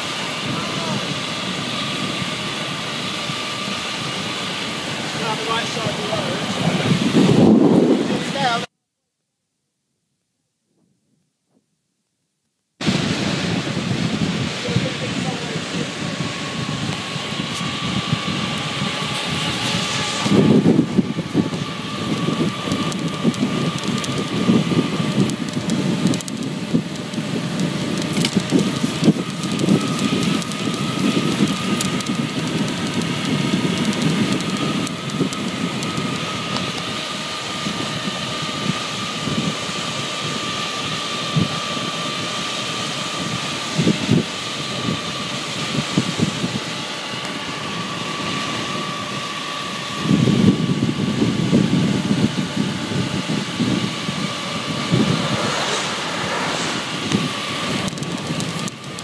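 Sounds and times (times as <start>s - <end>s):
wind buffeting microphone: 0.0s - 8.7s, 12.8s - 42.4s, 47.7s - 59.0s
thin steady whine: 0.0s - 10.1s, 10.9s - 59.0s.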